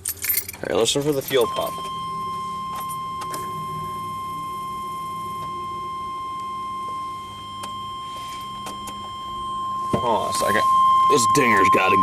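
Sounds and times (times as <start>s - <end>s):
low steady hum: 0.0s - 12.0s
car warning chime high tone: 0.7s - 12.0s.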